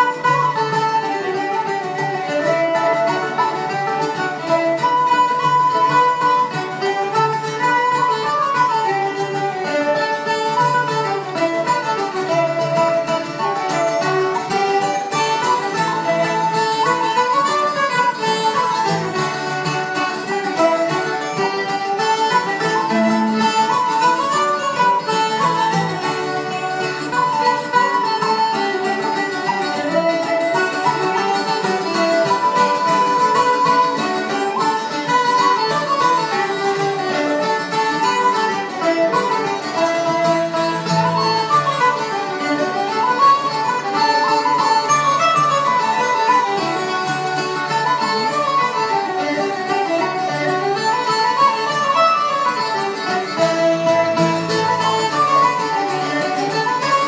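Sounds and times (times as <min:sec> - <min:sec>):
fiddle and banjo folk tune: 0:00.0 - 0:57.0.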